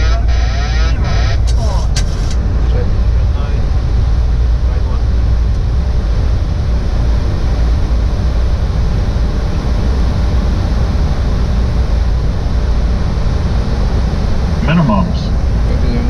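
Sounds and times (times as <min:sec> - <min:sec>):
airliner cockpit noise: 0:00.0 - 0:16.0.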